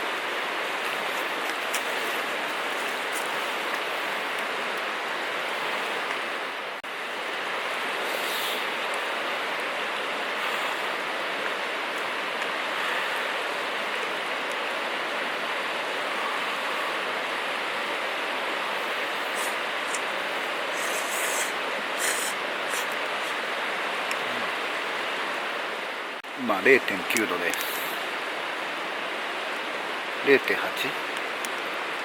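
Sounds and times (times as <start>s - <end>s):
steady rushing hiss: 0.0s - 32.0s.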